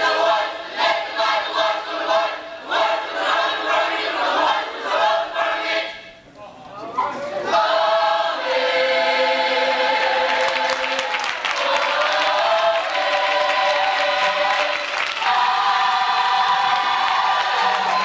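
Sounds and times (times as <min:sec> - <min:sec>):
choir singing held chords: 0:00.0 - 0:06.2, 0:07.3 - 0:18.0.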